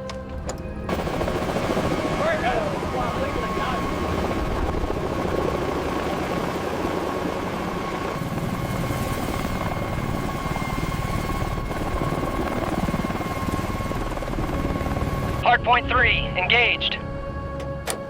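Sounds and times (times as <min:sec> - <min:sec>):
helicopter rotor chop: 0:00.8 - 0:15.4.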